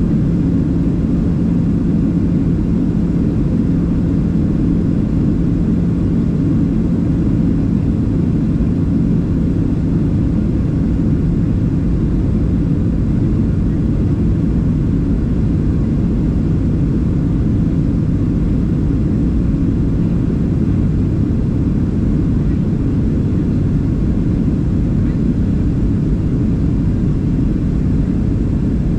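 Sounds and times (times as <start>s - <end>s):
airplane cabin engine rumble: 0.0s - 28.9s
faint steady hum: 0.0s - 28.9s.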